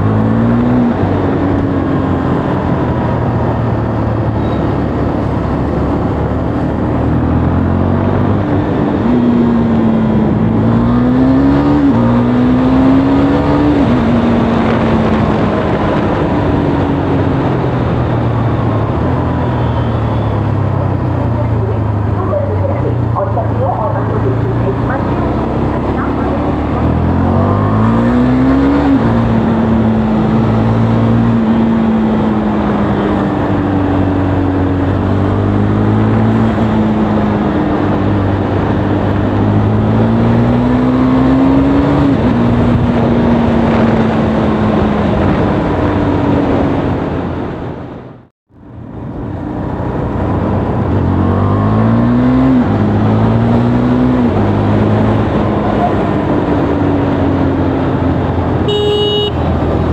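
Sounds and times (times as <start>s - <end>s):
motorcycle engine revving and shifting: 0.0s - 48.3s, 49.2s - 59.9s.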